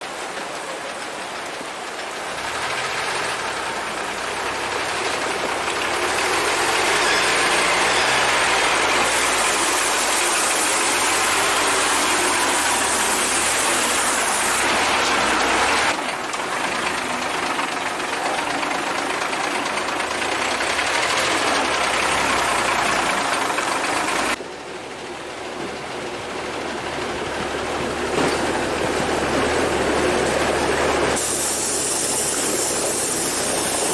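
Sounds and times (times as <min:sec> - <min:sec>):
truck engine labouring: 0:00.0 - 0:33.9.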